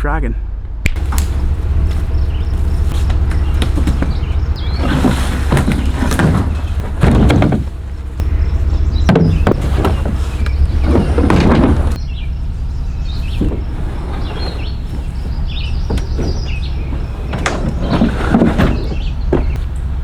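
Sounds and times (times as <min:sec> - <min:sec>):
steady low rumble: 0:00.0 - 0:20.0
gear knocking and clunking: 0:00.9 - 0:20.0.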